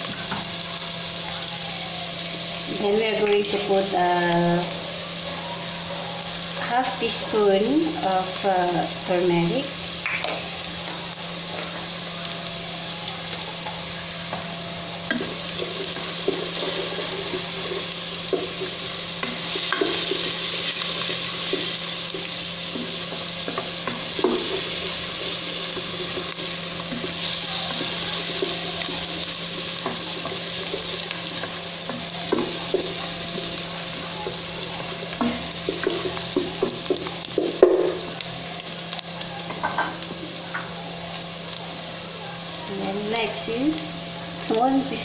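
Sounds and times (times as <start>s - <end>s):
aromatics sizzling in hot oil: 0.0s - 45.0s.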